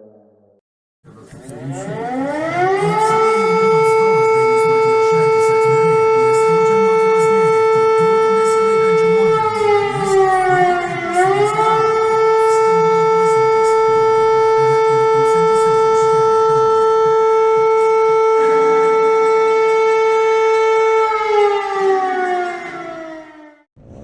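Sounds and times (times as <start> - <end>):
civil defense siren: 1.1 - 23.7.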